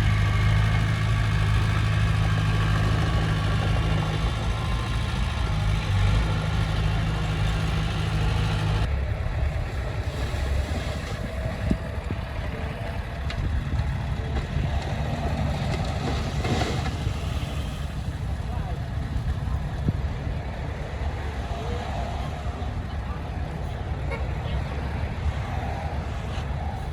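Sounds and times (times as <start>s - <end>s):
heavy machinery diesel engine: 0.0s - 26.9s.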